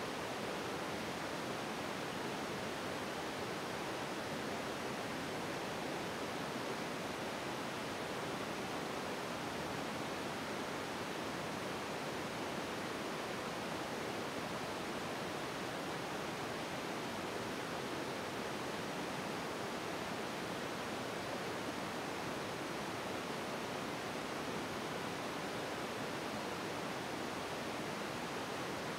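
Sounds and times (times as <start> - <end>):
steady background hiss: 0.0 - 28.9.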